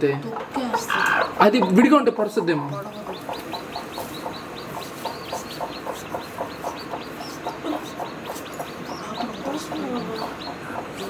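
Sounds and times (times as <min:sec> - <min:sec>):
chicks peeping: 0:00.0 - 0:11.0
lower chick calls: 0:00.2 - 0:11.0.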